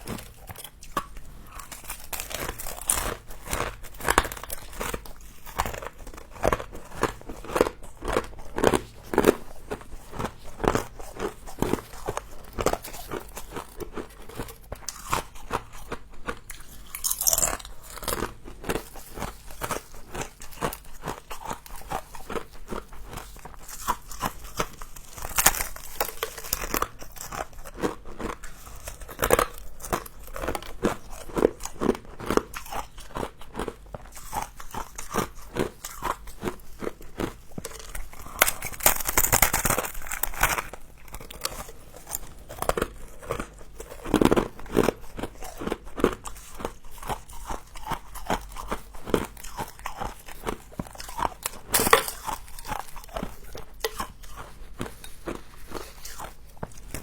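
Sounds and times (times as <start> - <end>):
person crunching frost: 0.0 - 57.0.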